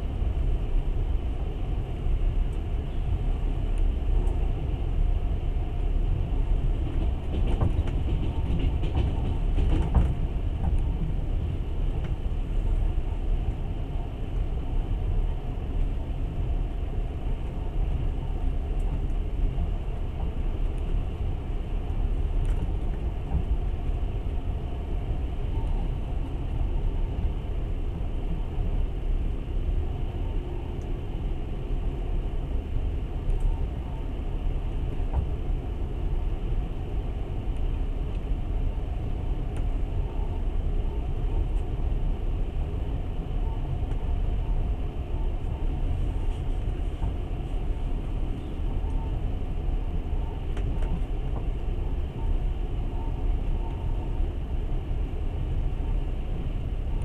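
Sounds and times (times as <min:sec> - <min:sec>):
train rumble from inside carriage: 0:00.0 - 0:57.0.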